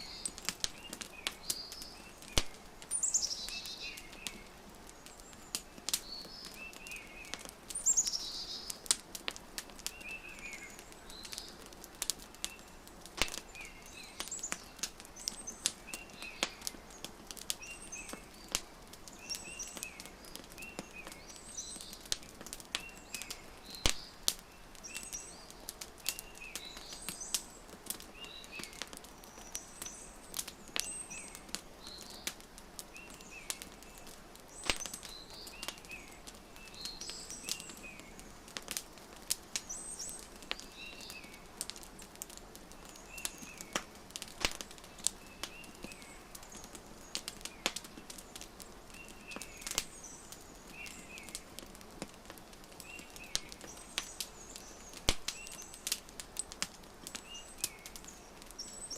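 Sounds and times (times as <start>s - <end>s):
small birds chirping: 0.0s - 58.9s
wood fire crackling: 0.0s - 58.9s.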